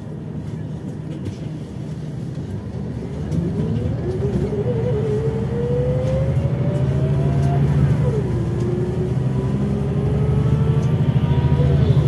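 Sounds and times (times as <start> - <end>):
bus diesel engine hum: 0.0 - 12.0.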